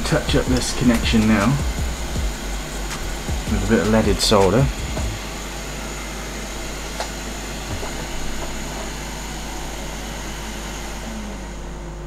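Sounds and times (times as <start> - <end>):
fan whirring hiss: 0.0 - 12.0.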